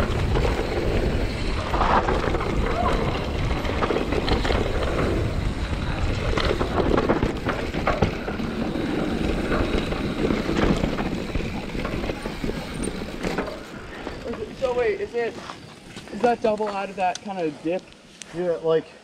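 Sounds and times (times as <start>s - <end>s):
bike clicks and rattles: 0.0s - 18.7s
bike tyres crunching on dirt: 0.0s - 18.9s.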